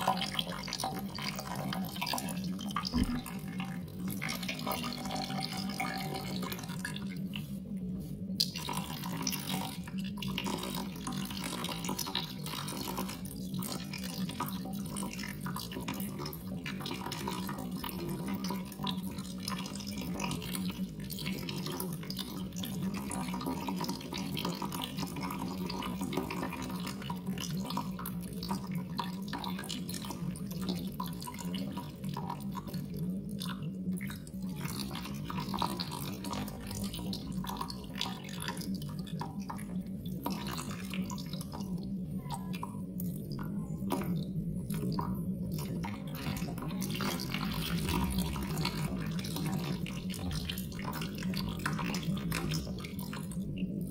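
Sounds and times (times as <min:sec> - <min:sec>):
steady low hum: 0:00.0 - 0:23.7, 0:25.2 - 0:53.9
water dripping and trickling: 0:00.0 - 0:53.9.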